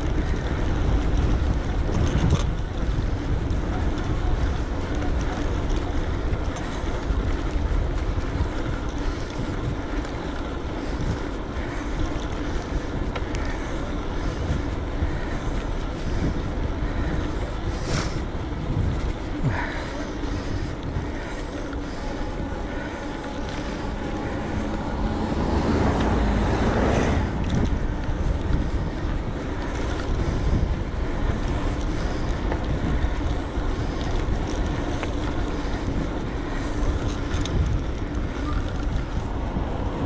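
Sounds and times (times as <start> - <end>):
faint steady hum: 0.0 - 39.6
bike tyre noise on road: 0.0 - 40.0
wind rushing over microphone: 0.0 - 40.0.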